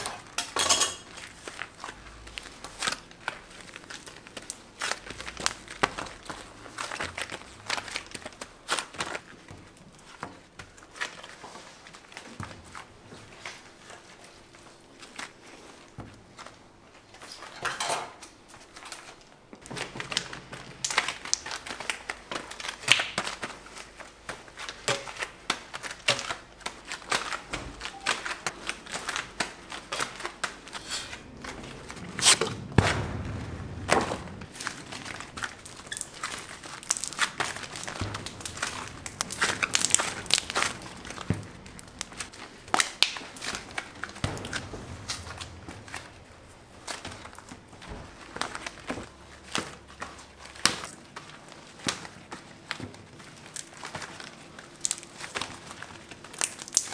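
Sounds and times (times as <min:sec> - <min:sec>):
gloved hands crinkling and rustling: 0:00.0 - 0:17.6, 0:18.2 - 0:56.9.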